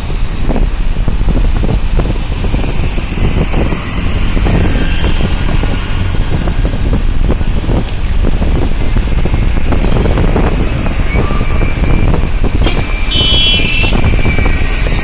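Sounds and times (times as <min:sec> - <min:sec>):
low thumps: 0:00.0 - 0:13.0
road traffic rumble: 0:00.0 - 0:15.0.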